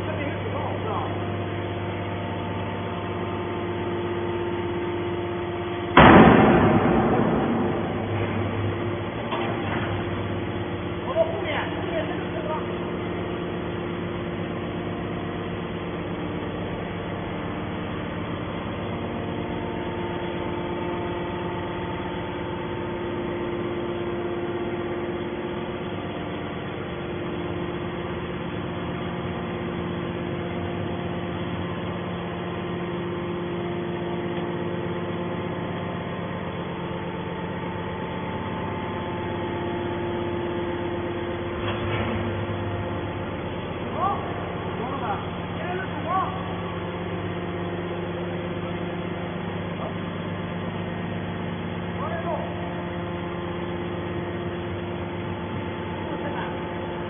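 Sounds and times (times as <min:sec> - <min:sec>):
hydraulic pump humming: 0:00.0 - 0:57.0.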